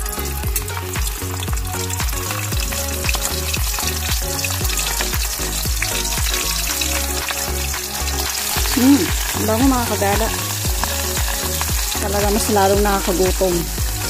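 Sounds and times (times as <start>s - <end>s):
background music with steady beat: 0.0s - 14.0s
fish sizzling in hot oil: 0.0s - 14.0s.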